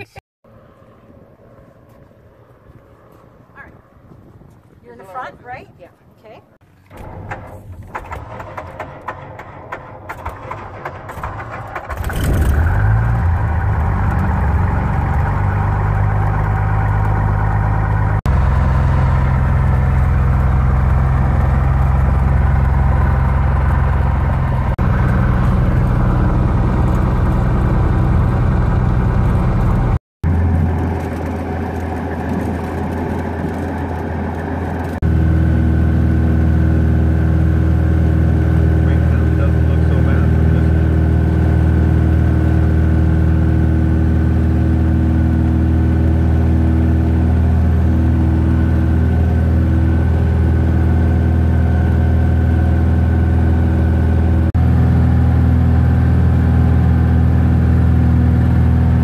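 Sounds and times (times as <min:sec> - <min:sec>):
propeller plane engine: 0:00.0 - 0:05.6, 0:06.7 - 0:59.0.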